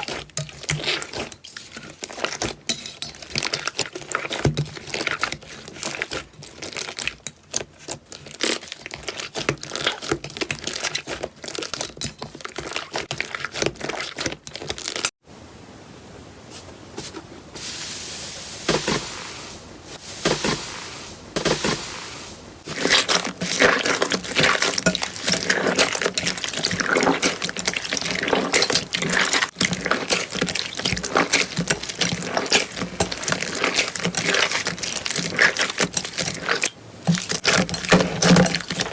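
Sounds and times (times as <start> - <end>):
slime squishing: 0.0 - 15.1, 18.7 - 38.9.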